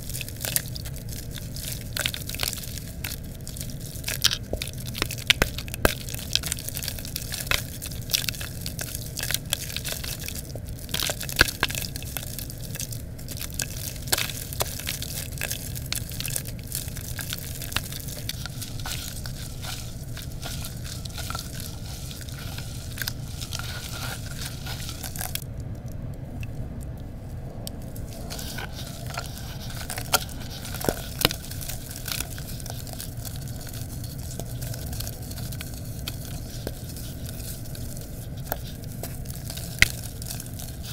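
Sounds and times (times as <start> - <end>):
hands crushing wet dirt bricks: 0.0 - 25.5, 27.7 - 40.9.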